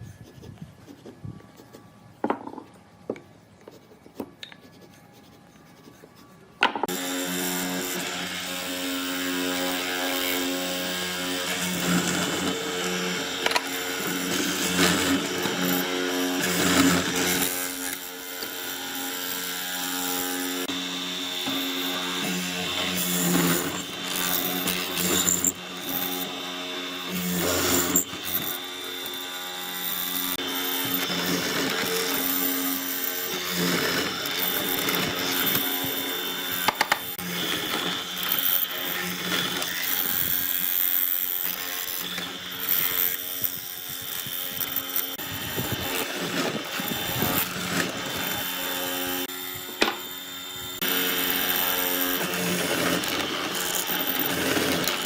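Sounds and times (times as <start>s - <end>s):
electric power tool running: 6.6s - 55.0s.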